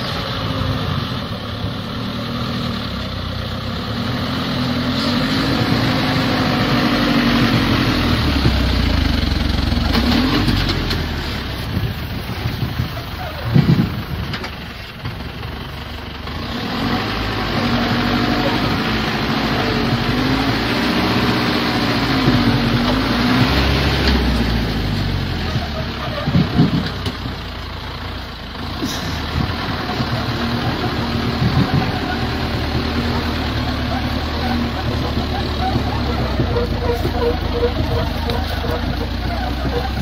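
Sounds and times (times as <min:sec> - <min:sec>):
truck engine labouring: 0:00.0 - 0:40.0
truck clunks: 0:04.5 - 0:40.0.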